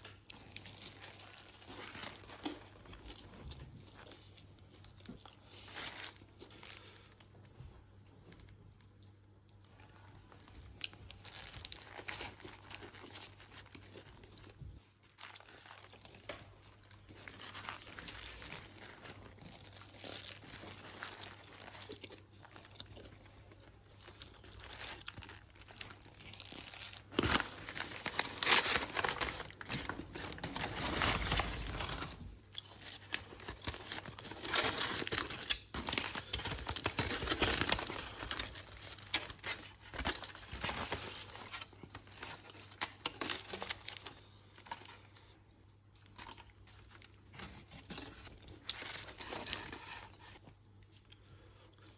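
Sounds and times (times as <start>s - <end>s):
paper wrapper crinkling: 0.0s - 7.2s, 9.6s - 45.3s, 45.9s - 50.4s.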